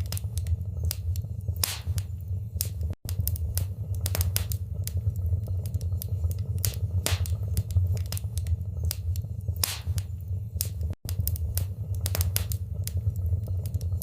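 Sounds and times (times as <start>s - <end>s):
fire crackling and popping: 0.0s - 14.0s
low rumble of fire: 0.0s - 14.0s.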